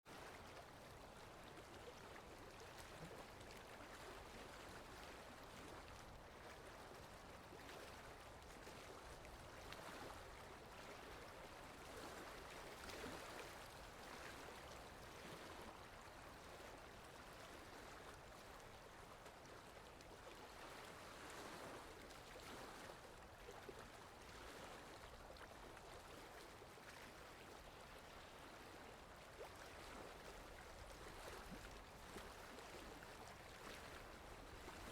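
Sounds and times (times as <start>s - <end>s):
wind: 0.0s - 34.9s
water lapping: 0.1s - 34.9s.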